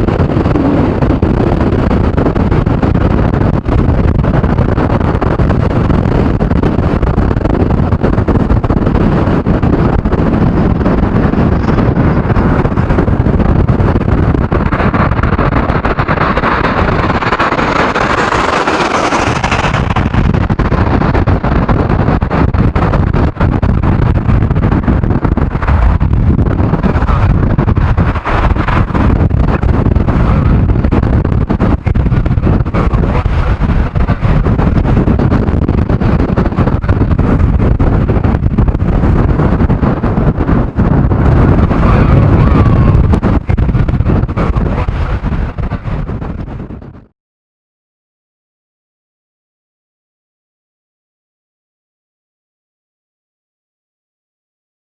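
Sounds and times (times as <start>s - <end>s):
jet engines running: 0.0s - 47.1s
wind buffeting microphone: 0.0s - 47.1s.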